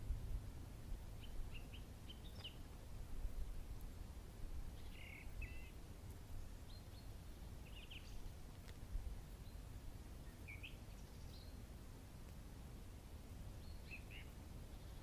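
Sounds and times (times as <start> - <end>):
faint low rumble: 0.0 - 15.0
small birds chirping: 1.0 - 15.0.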